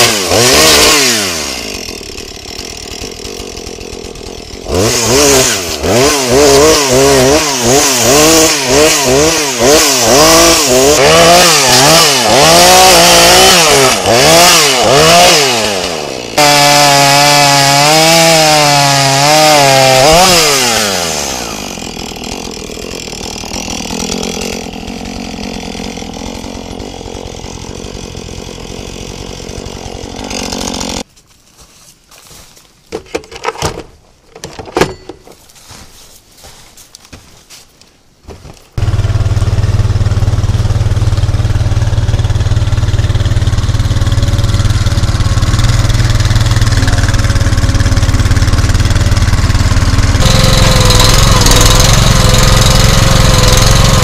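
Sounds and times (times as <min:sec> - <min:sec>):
chainsaw cutting wood: 0:00.0 - 0:31.1, 0:38.4 - 0:54.0.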